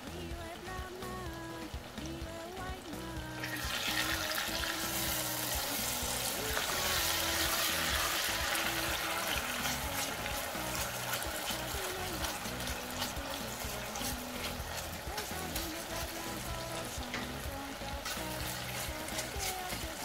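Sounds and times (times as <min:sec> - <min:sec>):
background music: 0:00.0 - 0:20.0
tomatoes sizzling in a pan: 0:00.0 - 0:20.0
spatula stirring: 0:03.4 - 0:20.0.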